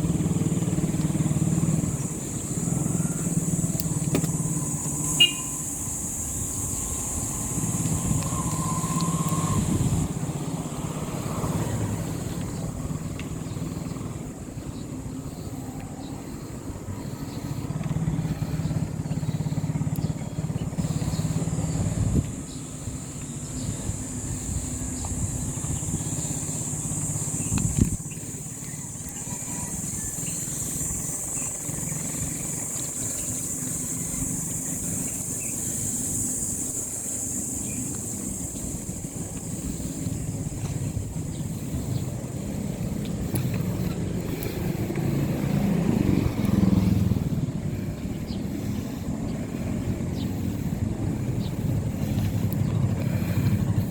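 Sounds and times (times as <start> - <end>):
motorcycle engine running: 0.0 - 53.9
wind rumbling on microphone: 0.0 - 53.9.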